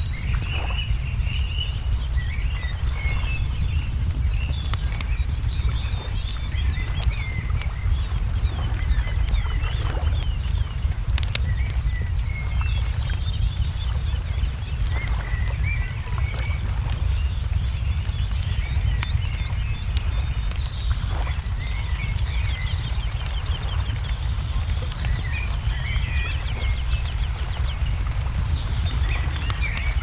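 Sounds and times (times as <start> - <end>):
songbirds chirping: 0.0 - 30.0
wood fire crackling: 0.0 - 30.0.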